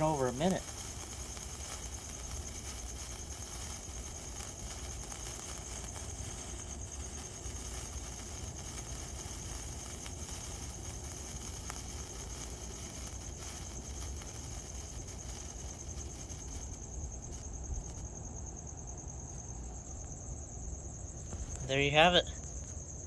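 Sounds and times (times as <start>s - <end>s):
sparkler hissing and ticking: 0.0s - 18.4s, 21.0s - 23.0s
crickets chirping: 0.0s - 23.0s.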